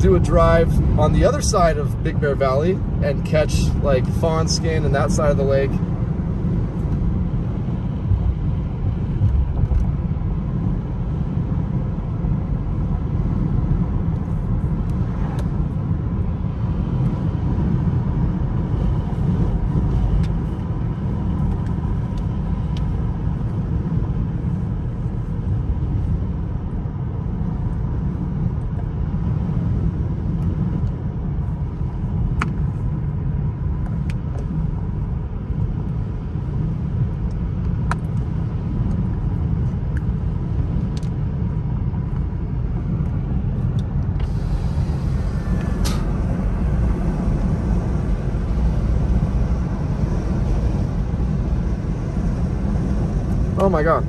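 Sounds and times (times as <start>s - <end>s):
car driving on wet road: 0.0s - 54.0s.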